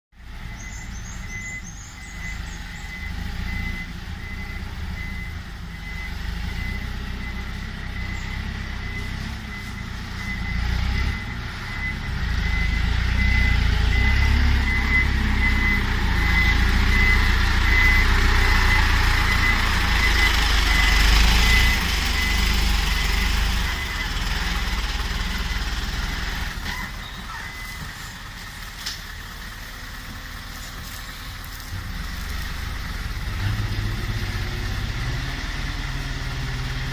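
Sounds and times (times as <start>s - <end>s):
diesel engine rumble: 0.1s - 36.9s
truck reversing beeper: 0.2s - 36.9s.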